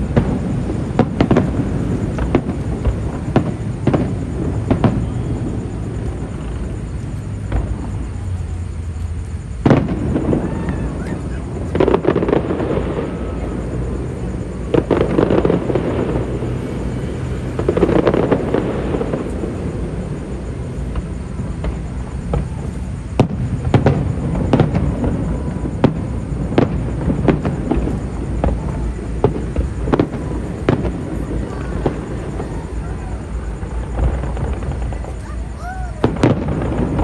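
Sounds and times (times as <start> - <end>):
fireworks booming bursts: 0.0 - 37.0
fireworks cracks and pops: 0.0 - 37.0.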